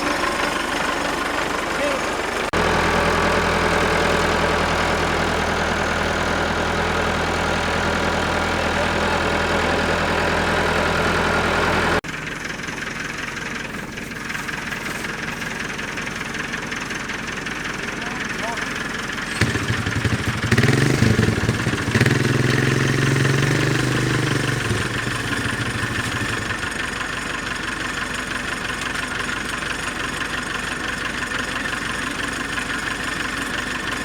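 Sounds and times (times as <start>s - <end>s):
quieter engine: 0.0s - 34.0s
tractor engine idling: 0.0s - 34.0s.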